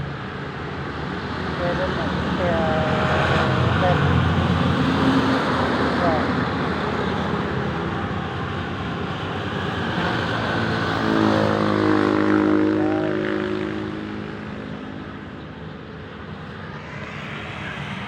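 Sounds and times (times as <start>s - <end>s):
bus engine passing: 0.0s - 18.0s
road traffic noise: 0.0s - 18.0s.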